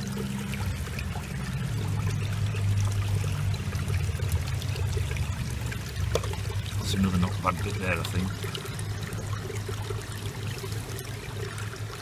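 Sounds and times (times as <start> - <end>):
low steady hum: 0.0 - 12.0
water pouring and splashing: 0.0 - 12.0.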